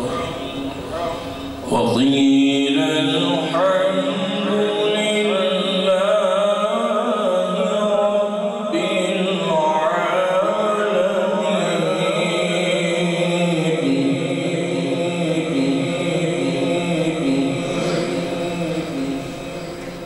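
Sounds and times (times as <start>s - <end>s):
man chanting devotional text: 0.0s - 20.0s.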